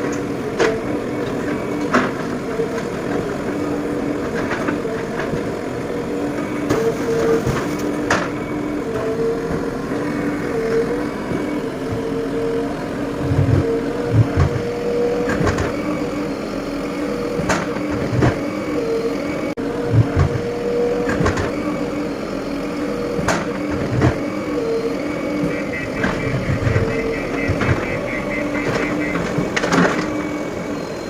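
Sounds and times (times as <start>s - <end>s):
diesel engine under load: 0.0s - 31.0s.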